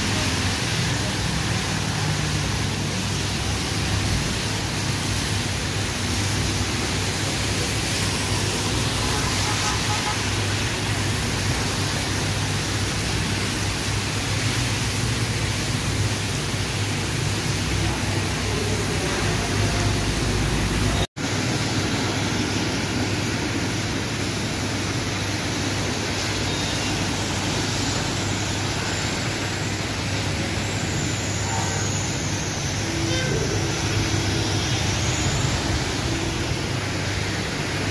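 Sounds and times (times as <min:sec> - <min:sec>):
heavy rain hissing: 0:00.0 - 0:37.9
traffic on flooded road: 0:00.0 - 0:37.9.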